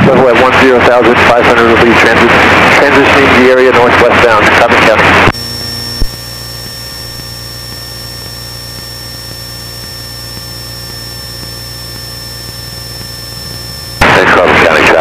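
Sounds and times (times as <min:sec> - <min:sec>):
airplane cabin engine drone: 0:00.0 - 0:15.0
high-pitched whine: 0:00.0 - 0:15.0.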